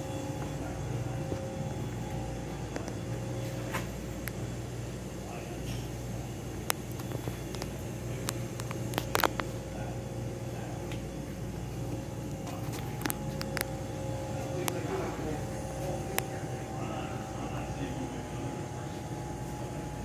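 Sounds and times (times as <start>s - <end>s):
faint voices: 0.0s - 20.0s
low indoor hum: 0.0s - 20.0s.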